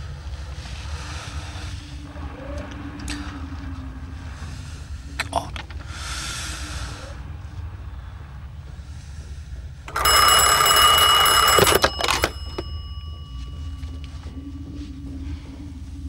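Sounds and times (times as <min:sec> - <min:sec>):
low rumble: 0:00.0 - 0:09.9, 0:12.8 - 0:16.0
faint hum: 0:00.0 - 0:16.0.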